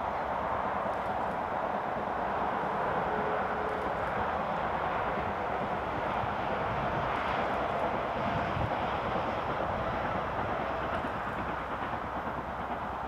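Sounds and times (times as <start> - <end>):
motorway traffic roar: 0.0 - 13.0
steam locomotive exhaust beat: 0.0 - 13.0.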